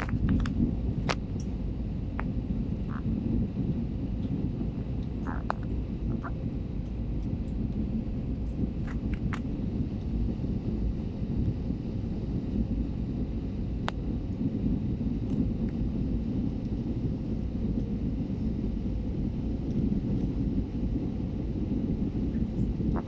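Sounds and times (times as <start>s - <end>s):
airliner landing rumble: 0.0s - 23.0s
faint steady hum: 0.0s - 23.0s.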